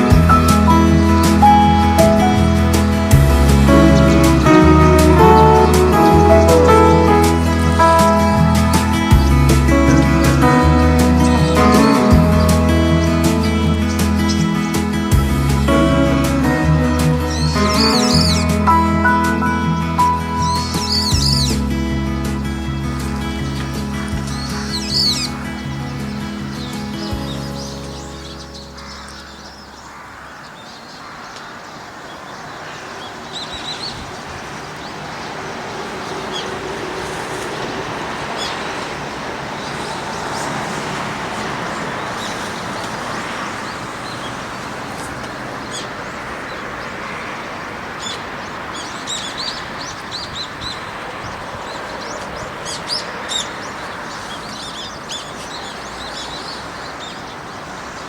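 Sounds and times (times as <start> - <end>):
small birds chirping: 0.0 - 58.0
steady rushing noise: 0.0 - 58.0.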